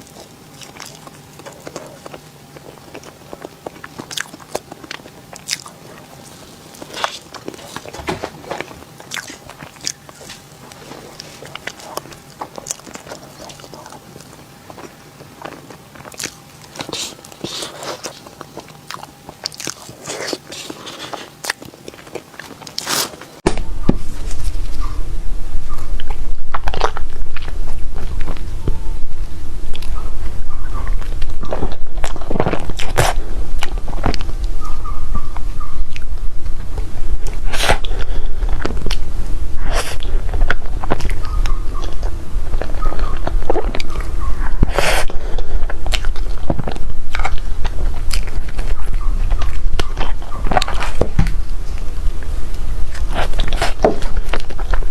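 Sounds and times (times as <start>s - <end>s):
crunchy chewing: 0.0s - 54.9s
low hum: 0.0s - 54.9s.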